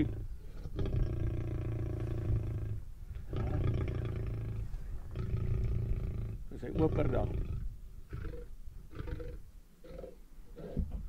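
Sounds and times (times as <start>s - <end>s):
lion growling: 0.0s - 11.0s.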